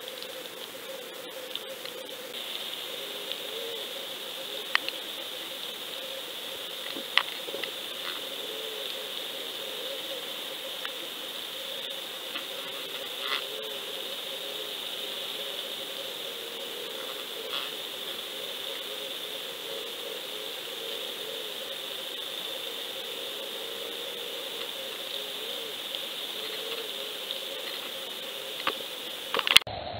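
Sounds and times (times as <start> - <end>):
steady hiss: 0.0 - 29.9.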